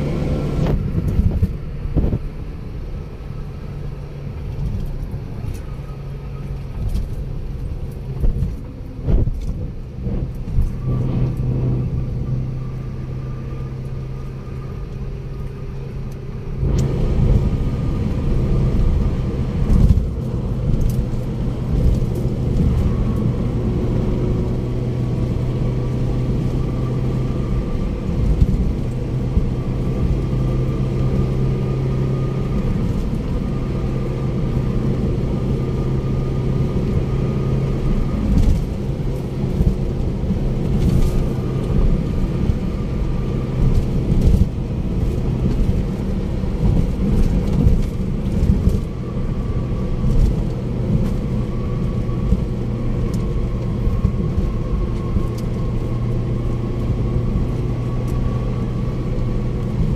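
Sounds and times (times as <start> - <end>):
car engine hum: 0.0 - 59.9
tyre noise on road: 0.0 - 59.9.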